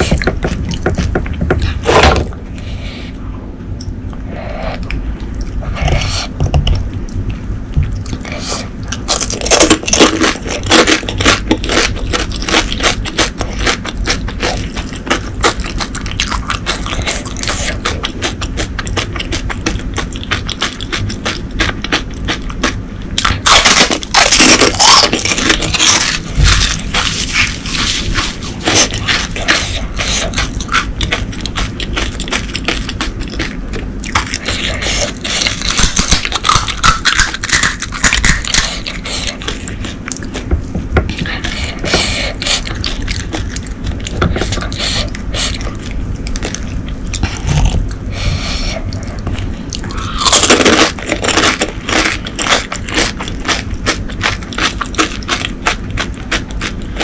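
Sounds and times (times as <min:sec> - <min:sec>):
chewing crisp shells: 0:06.8 - 0:40.5, 0:41.1 - 0:48.1, 0:48.7 - 0:57.0.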